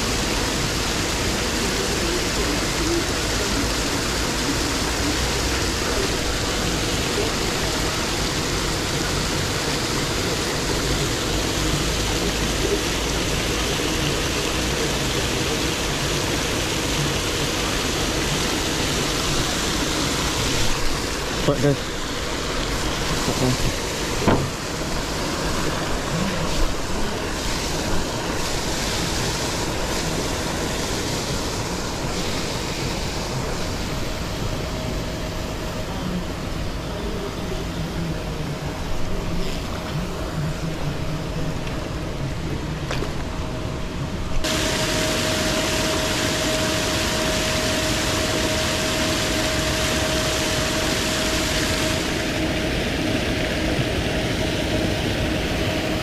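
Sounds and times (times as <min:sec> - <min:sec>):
aerator splashing water: 0:00.0 - 0:56.0
motor hum: 0:00.0 - 0:56.0.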